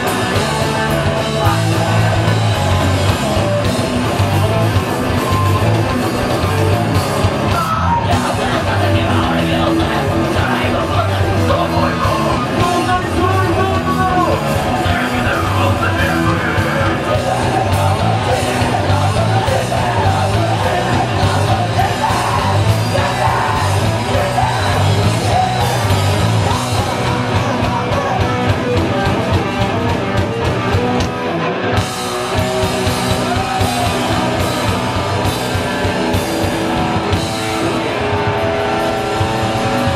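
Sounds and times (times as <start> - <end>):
vocalist yelling and singing: 0.0 - 3.7, 7.4 - 31.0, 32.3 - 39.9
heavy punk metal band playing: 0.0 - 39.9.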